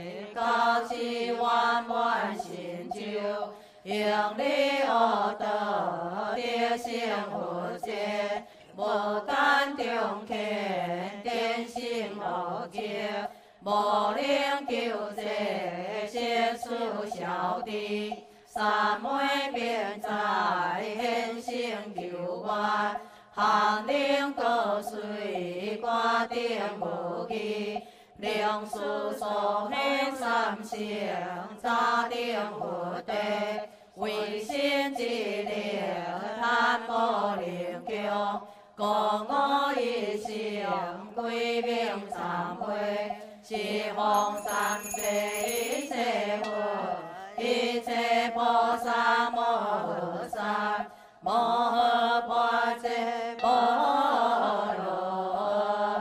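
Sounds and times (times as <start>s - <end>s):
group chanting in unison: 0.0s - 44.3s, 45.9s - 56.0s.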